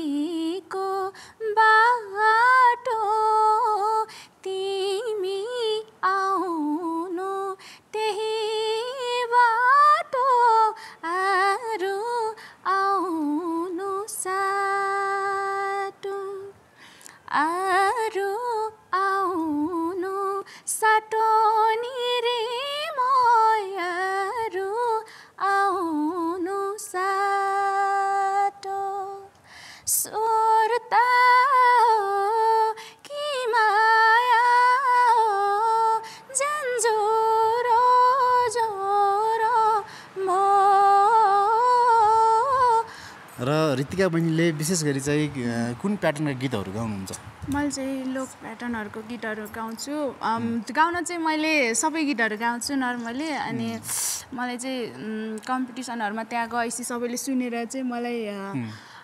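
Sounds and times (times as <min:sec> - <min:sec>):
woman singing unaccompanied: 0:00.0 - 0:43.0, 0:47.4 - 0:58.9.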